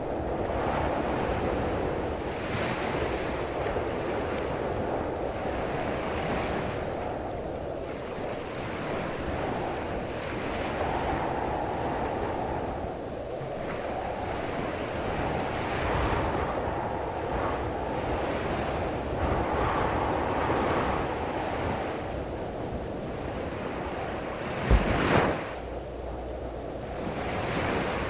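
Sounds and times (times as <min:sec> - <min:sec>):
ocean surf breaking on beach: 0:00.0 - 0:28.0
wind on microphone: 0:00.0 - 0:28.0.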